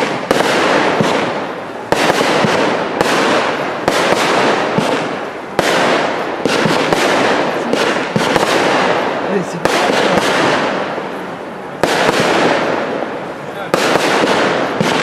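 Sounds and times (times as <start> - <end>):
fireworks bangs: 0.0 - 15.0
fireworks crackling sizzle: 0.0 - 15.0.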